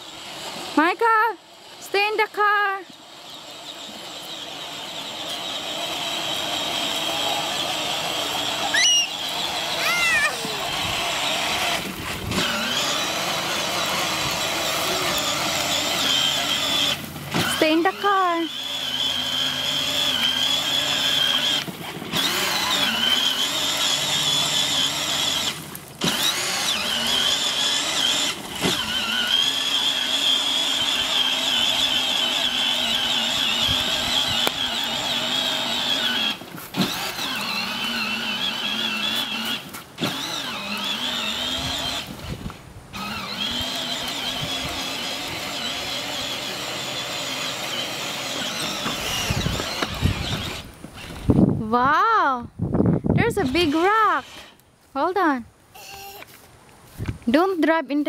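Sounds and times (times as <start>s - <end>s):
toy car electric motor whine: 0.0s - 51.5s, 53.2s - 54.7s, 55.7s - 56.5s.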